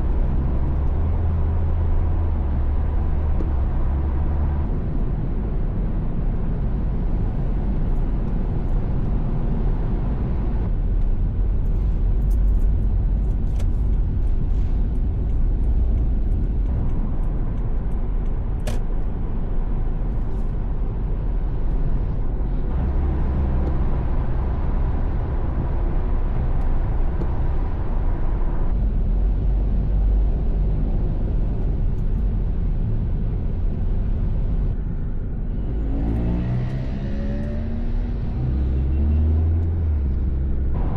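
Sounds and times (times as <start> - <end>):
vehicle driving road noise: 0.0 - 40.9.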